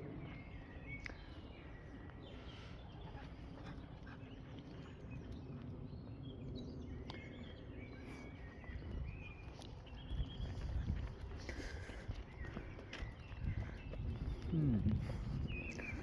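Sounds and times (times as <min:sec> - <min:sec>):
faint birdsong chirps: 0:00.0 - 0:16.0
low outdoor rumble: 0:00.0 - 0:16.0.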